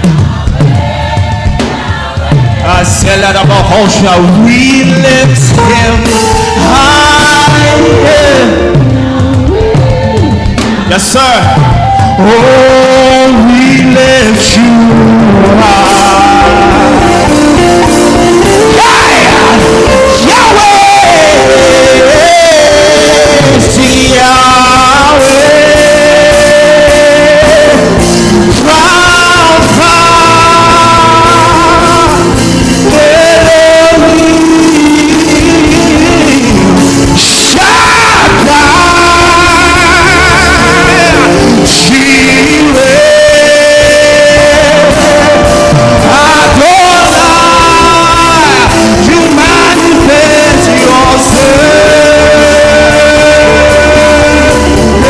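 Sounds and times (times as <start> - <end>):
choir singing long notes: 0.0 - 4.5, 5.4 - 55.0
live band playing: 0.0 - 55.0.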